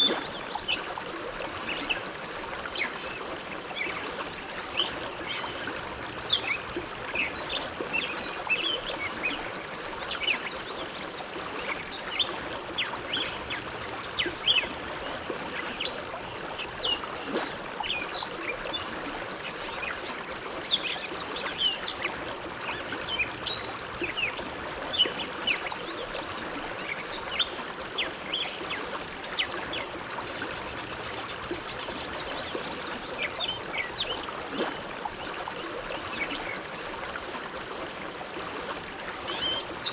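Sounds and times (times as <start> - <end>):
water gurgling and splashing: 0.0 - 39.9.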